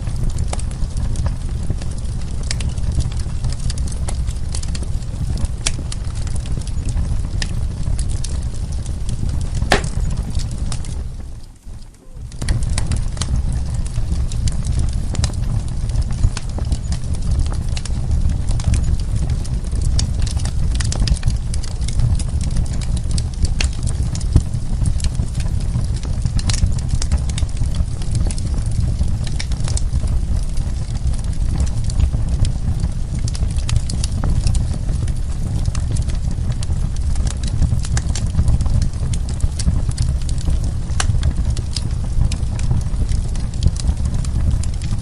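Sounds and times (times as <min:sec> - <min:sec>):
low fire rumble: 0:00.0 - 0:45.0
wood fire crackling and popping: 0:00.0 - 0:45.0.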